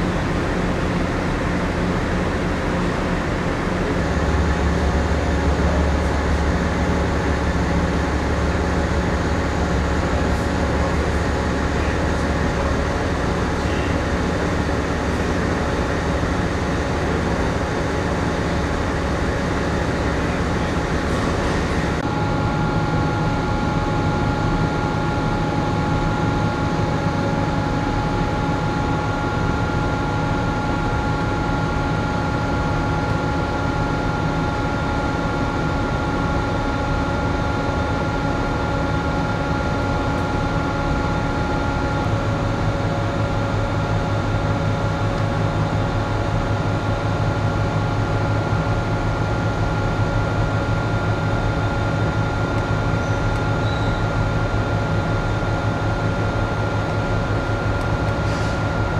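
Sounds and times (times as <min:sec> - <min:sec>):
ship machinery drone: 0:00.0 - 0:58.9.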